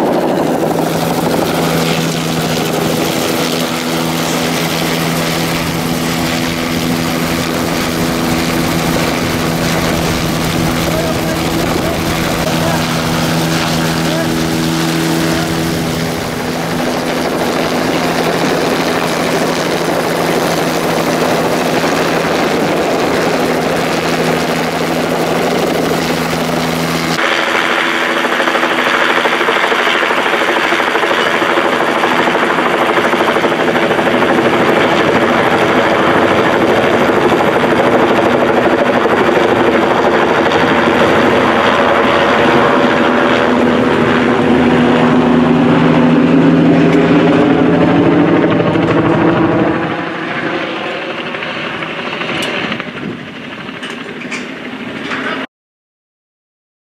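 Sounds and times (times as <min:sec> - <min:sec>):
helicopter engine and rotor: 0:00.0 - 0:55.5.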